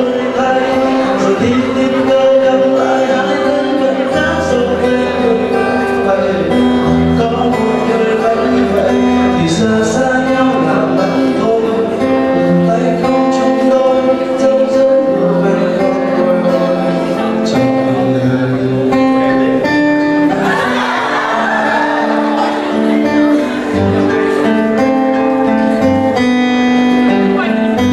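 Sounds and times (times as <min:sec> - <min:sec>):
acoustic guitar: 0:00.0 - 0:27.9
man singing: 0:00.0 - 0:27.9.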